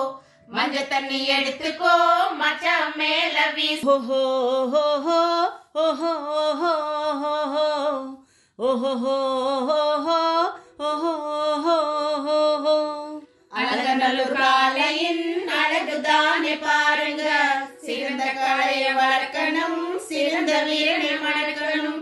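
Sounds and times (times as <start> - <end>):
women singing folk song: 0.0 - 22.0.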